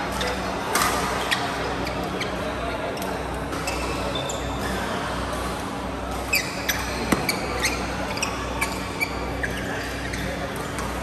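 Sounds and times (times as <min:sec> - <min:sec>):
shoes squeaking on court: 0:00.1 - 0:04.9, 0:06.2 - 0:11.0.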